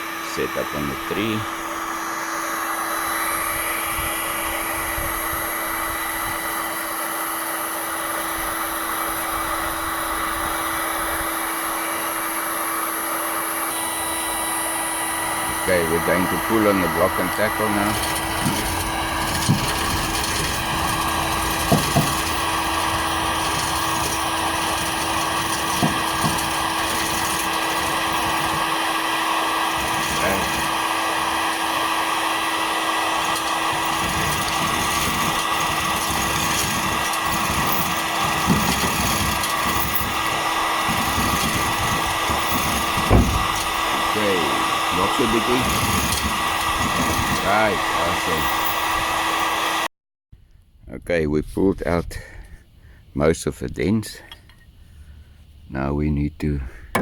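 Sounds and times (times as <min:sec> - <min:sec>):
heat gun whirring: 0:00.0 - 0:49.9.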